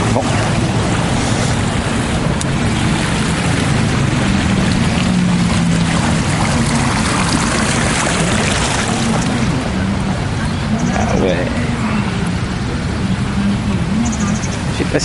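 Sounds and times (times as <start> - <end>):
low steady hum: 0.0 - 15.0
water splashing and sloshing: 0.0 - 15.0.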